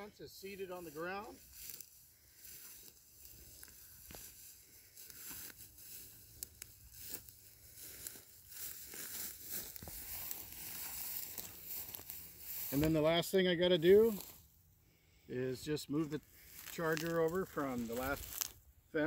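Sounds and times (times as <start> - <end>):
dry grass rustling underfoot: 0.0 - 19.0.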